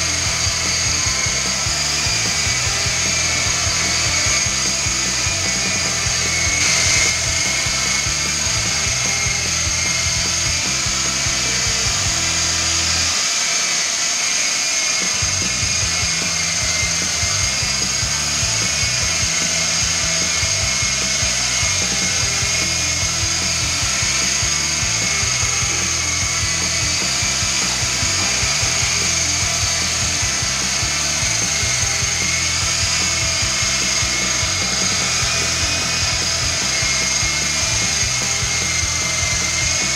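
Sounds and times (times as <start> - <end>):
background music: 0.0 - 13.1, 15.5 - 39.9
toy helicopter rotors whining: 0.0 - 39.9.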